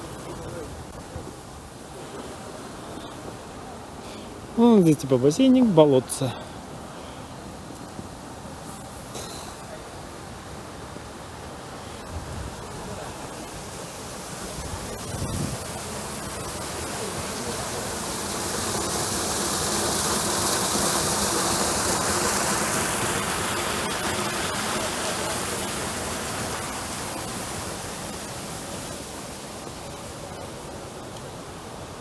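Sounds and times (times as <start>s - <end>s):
small waterfall rushing: 0.0s - 32.0s.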